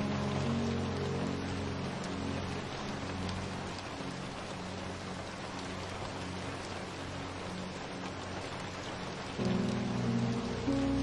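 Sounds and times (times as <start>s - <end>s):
soft background music: 0.0s - 11.0s
steady rain: 0.0s - 11.0s.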